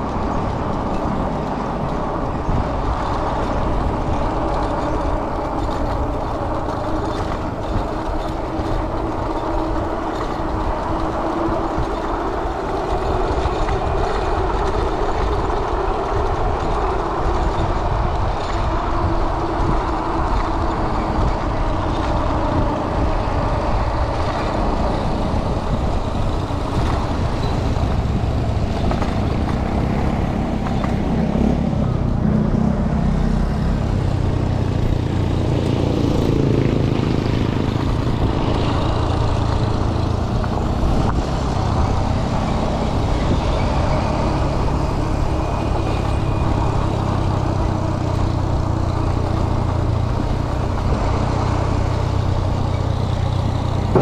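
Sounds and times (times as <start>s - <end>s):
motor engine running: 0.0s - 54.0s.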